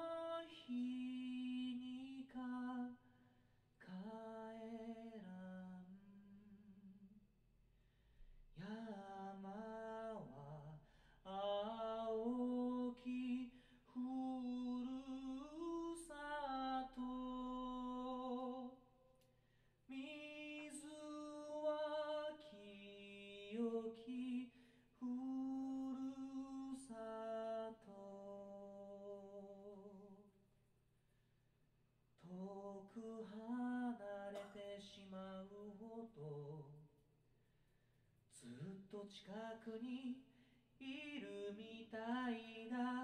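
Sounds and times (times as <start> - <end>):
man singing unaccompanied: 0.0 - 3.0, 3.8 - 6.9, 8.6 - 18.9, 19.9 - 30.3, 32.2 - 36.9, 38.3 - 43.0.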